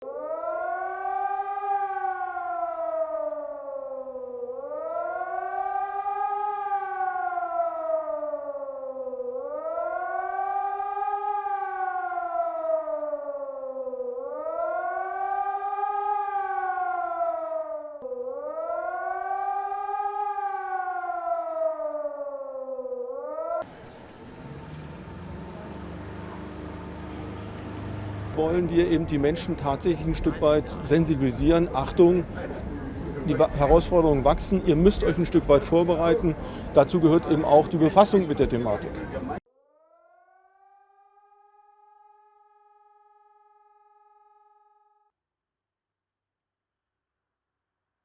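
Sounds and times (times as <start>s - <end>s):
wailing civil defence siren: 0.0s - 45.1s.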